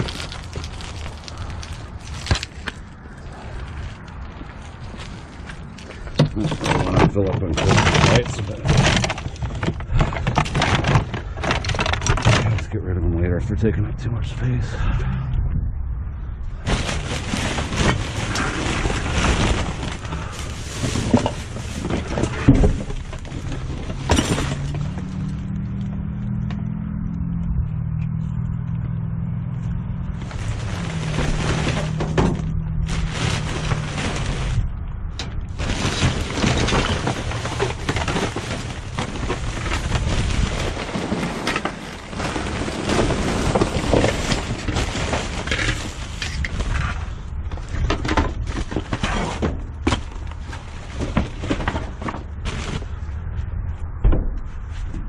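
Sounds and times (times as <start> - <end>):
items clattering and rustling: 0.0 - 12.8, 16.6 - 25.7, 30.2 - 34.6, 35.2 - 53.1.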